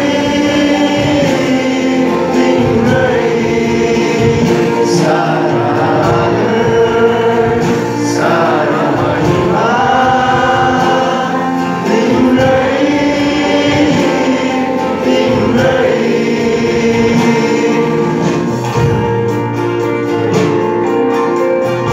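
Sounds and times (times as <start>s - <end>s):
group of voices singing: 0.0s - 19.2s
instrumental accompaniment: 0.0s - 21.9s.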